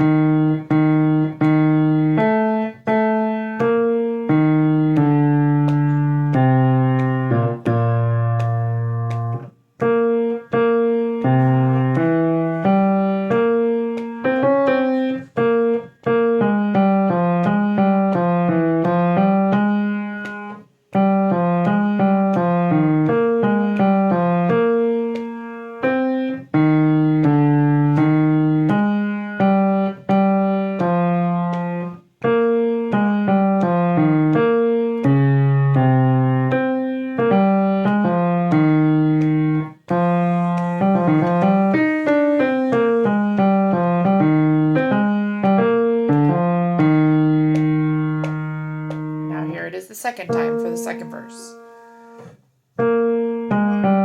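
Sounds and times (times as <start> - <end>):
slow piano melody: 0.0 - 54.0.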